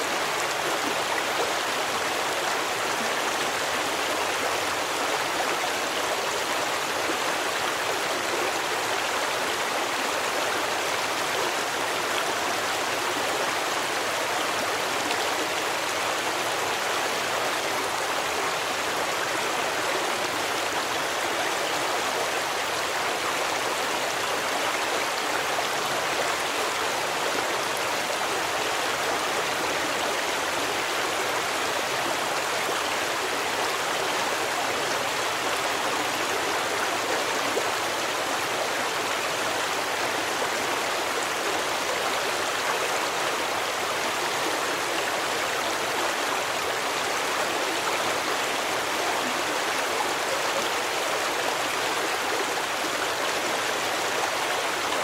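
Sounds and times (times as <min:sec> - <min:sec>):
running water stream: 0:00.0 - 0:55.0.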